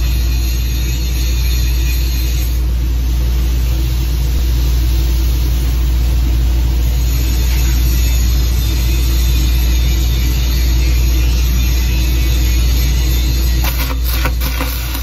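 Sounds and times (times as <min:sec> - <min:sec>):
machinery low hum: 0:00.0 - 0:15.0.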